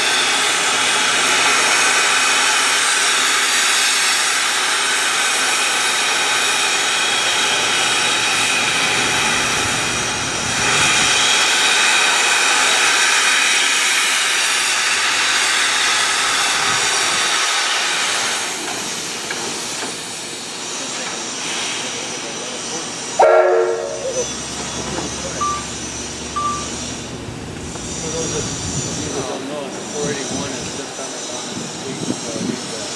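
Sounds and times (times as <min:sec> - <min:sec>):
steam locomotive hissing: 0:00.0 - 0:32.9.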